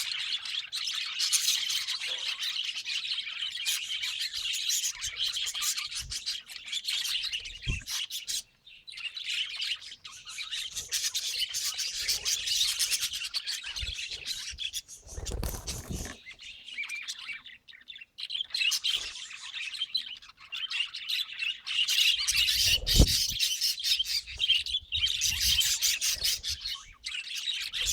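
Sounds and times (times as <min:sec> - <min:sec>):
budgerigars chattering: 0:00.0 - 0:27.9.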